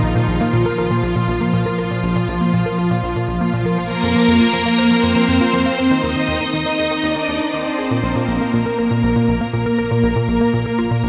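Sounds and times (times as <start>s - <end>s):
pulsing bass: 0.0s - 11.0s.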